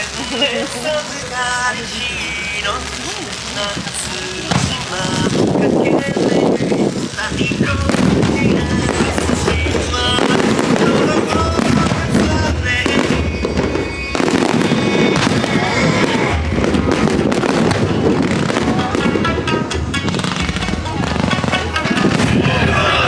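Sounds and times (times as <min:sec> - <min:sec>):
fireworks bursting: 0:00.0 - 0:23.0
music playing: 0:00.0 - 0:23.0.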